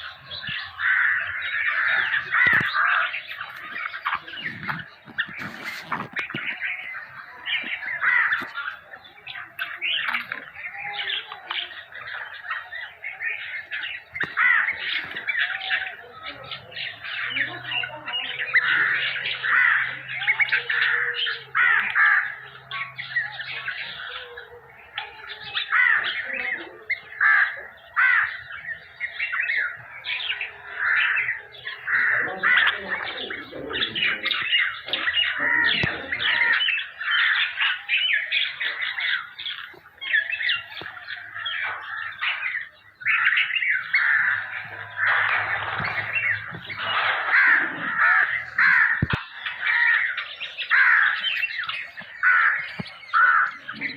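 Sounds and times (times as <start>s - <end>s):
nestlings begging calls: 0.0s - 53.9s.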